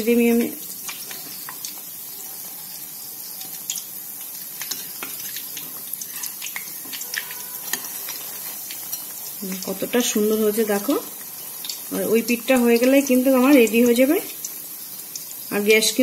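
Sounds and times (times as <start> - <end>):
food sizzling in hot oil: 0.0 - 16.0
oil popping and crackling: 0.0 - 16.0.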